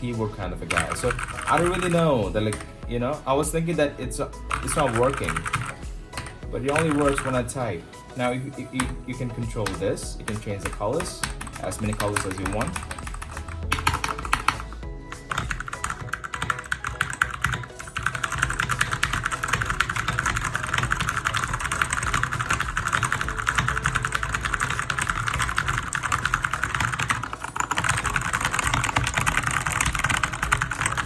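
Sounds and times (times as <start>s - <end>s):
fast typing on mechanical keyboard: 0.6s - 2.7s, 4.5s - 7.5s, 8.8s - 31.0s.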